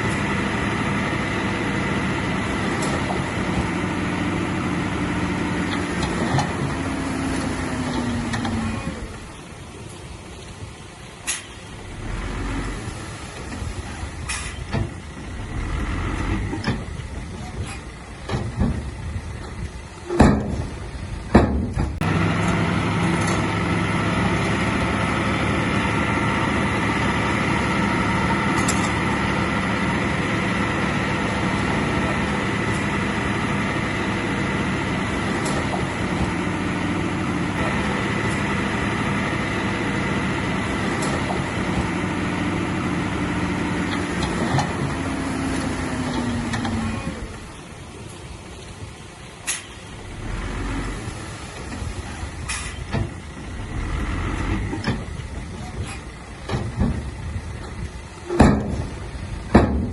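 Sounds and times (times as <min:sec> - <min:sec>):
diesel machinery engine running: 0:00.0 - 0:59.9.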